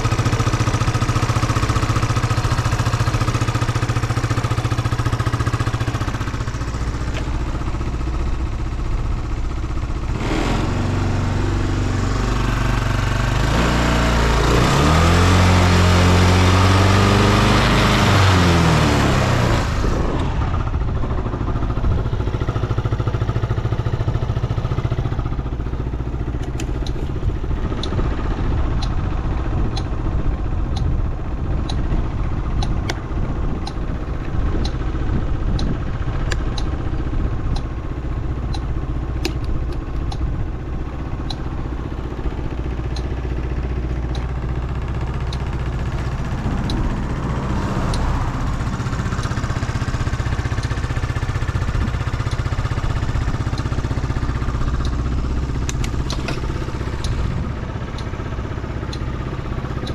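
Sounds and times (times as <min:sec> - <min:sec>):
light engine tick: 0:00.0 - 0:10.1, 0:20.2 - 0:59.9
scooter engine idling: 0:00.0 - 0:59.9.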